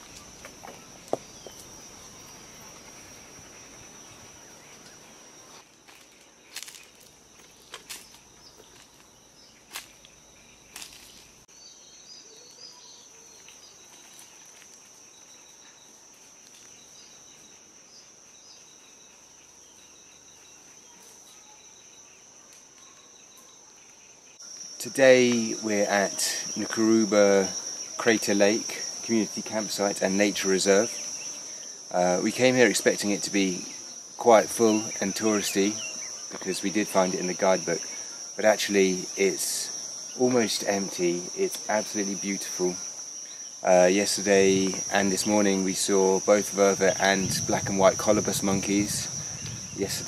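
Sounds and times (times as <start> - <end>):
high-pitched insect trill: 0.0 - 50.0.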